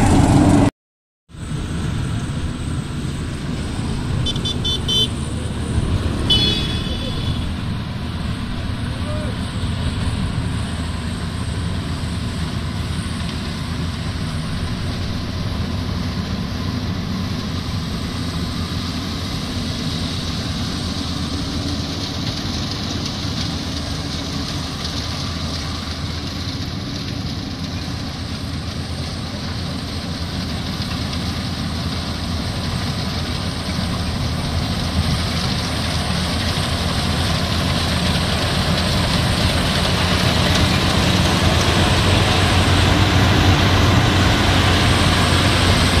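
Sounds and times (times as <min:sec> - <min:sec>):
combine harvester running: 0:00.0 - 0:00.7, 0:01.3 - 0:46.0.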